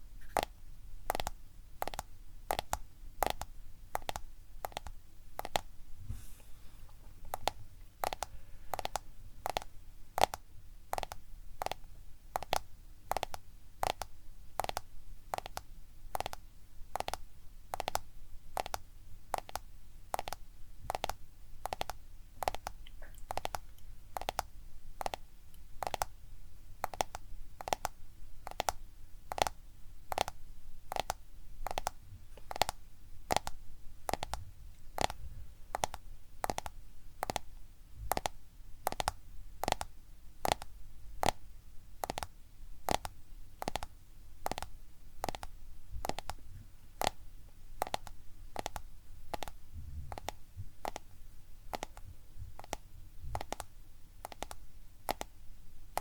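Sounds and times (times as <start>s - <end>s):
fingernails tapping on a phone: 1.1s - 5.7s, 7.3s - 11.8s, 12.4s - 18.0s, 18.6s - 23.6s, 24.2s - 25.2s, 25.8s - 26.1s, 26.8s - 34.4s, 35.0s - 37.5s, 38.1s - 41.4s, 42.0s - 42.3s, 42.9s - 46.4s, 47.8s - 51.1s, 51.7s - 55.3s.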